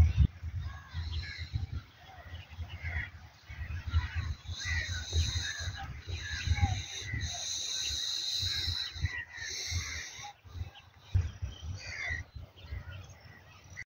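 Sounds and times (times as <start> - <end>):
bird calls: 0.0 - 13.8
wind buffeting microphone: 0.0 - 13.8.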